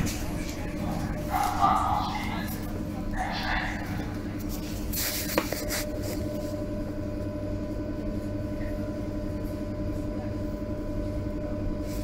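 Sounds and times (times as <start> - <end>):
train rumble: 0.0 - 11.2
electrical hum: 0.0 - 12.0.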